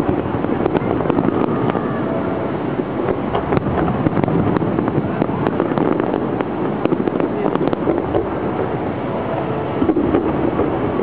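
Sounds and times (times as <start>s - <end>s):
fireworks cracks and pops: 0.0s - 8.8s, 9.7s - 11.0s
distant fireworks rumbling: 0.0s - 11.0s.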